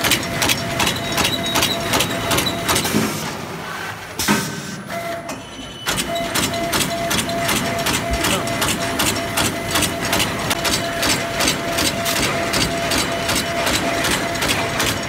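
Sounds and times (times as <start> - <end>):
machine clattering rhythmically: 0.0 - 3.5, 5.9 - 15.0.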